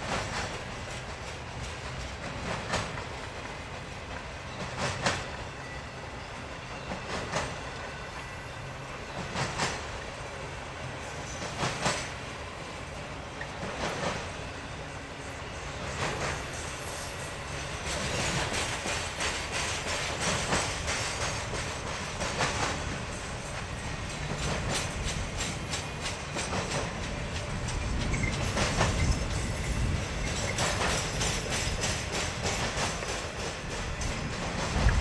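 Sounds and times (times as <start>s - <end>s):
train wheels clacking over rail joints: 0.0s - 5.8s, 6.4s - 10.2s, 11.2s - 12.3s, 13.4s - 35.0s
freight train rumble: 0.0s - 35.0s.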